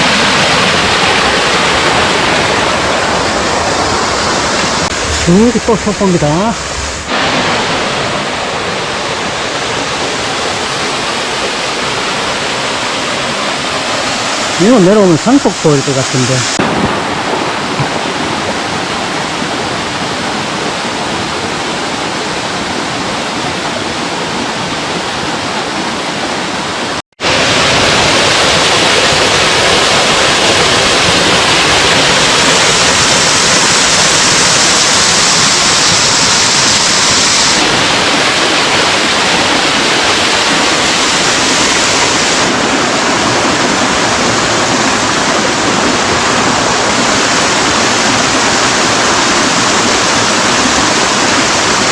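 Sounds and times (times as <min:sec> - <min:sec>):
water rushing over rocks: 0:00.0 - 0:51.9.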